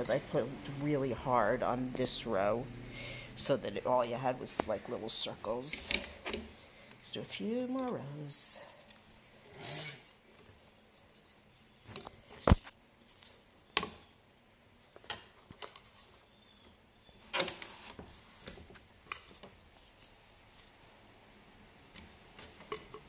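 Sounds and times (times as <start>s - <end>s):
shuttle and yarn handling: 3.4s - 23.0s.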